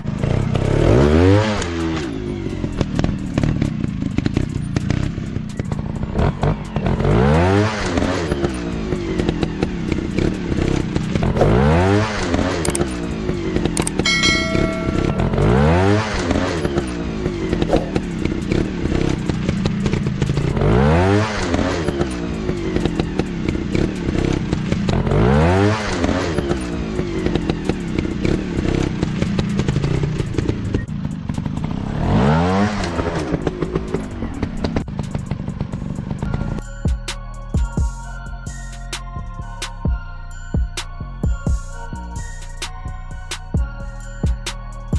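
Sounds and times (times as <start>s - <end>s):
dirt bike engines revving: 0.0s - 36.6s.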